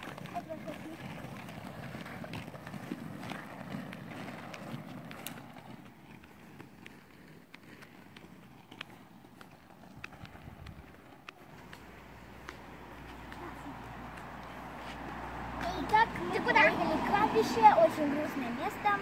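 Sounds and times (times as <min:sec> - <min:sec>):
skate wheels rolling on asphalt: 0:00.0 - 0:19.0.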